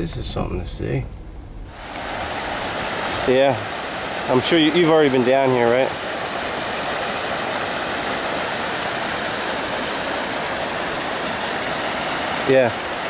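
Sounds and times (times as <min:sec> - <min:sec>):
floodwater rushing across lawn: 0:01.7 - 0:13.0.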